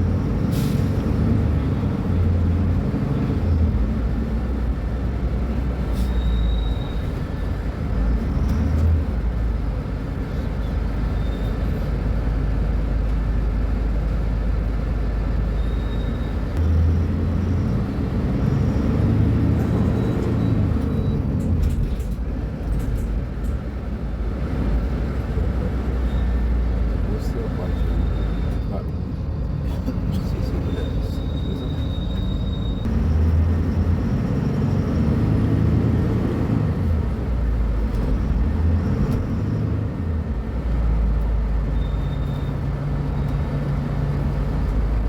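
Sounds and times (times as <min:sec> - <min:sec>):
bus diesel engine rumble: 0:00.0 - 0:45.0.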